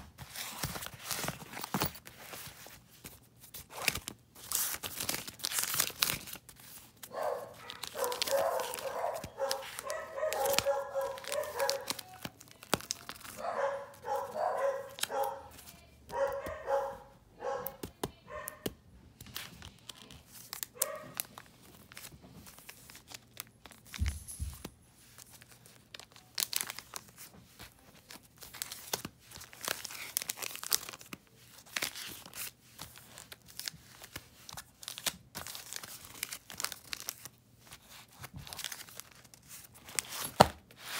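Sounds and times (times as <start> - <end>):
plastic sleeves rustling: 0.0 - 40.9.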